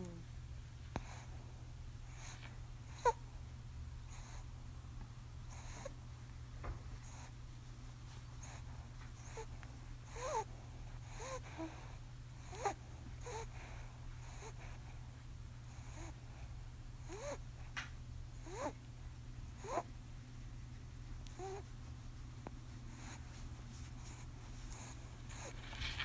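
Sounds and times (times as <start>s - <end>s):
rabbit snoring: 0.0s - 0.4s, 1.0s - 4.8s, 5.4s - 7.5s, 8.3s - 20.0s, 21.2s - 22.0s, 22.7s - 26.0s.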